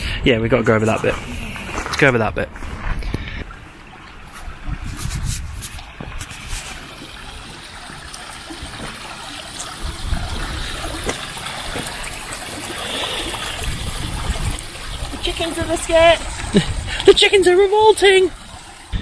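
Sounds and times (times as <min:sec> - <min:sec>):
stream trickling over stones: 0:00.7 - 0:19.0.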